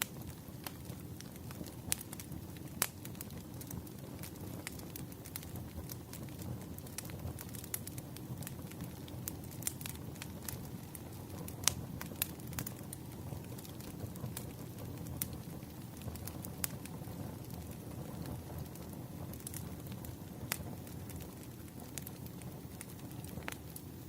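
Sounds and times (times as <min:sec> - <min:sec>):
fire crackling and popping: 0:00.0 - 0:24.0
low rumble of fire: 0:00.0 - 0:24.0.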